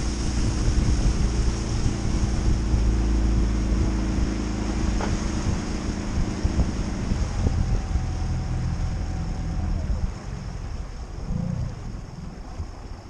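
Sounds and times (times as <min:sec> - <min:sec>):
outboard engine hum: 0:00.0 - 0:13.0
water rushing along hull: 0:00.0 - 0:13.0.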